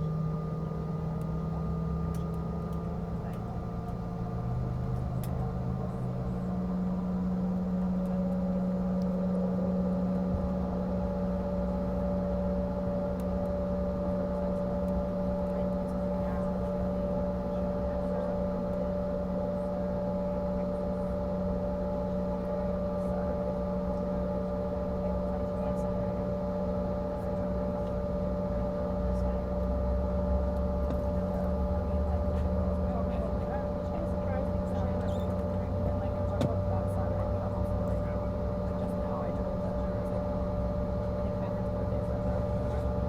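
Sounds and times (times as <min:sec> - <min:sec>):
jet engine drone in cabin: 0:00.0 - 0:43.0.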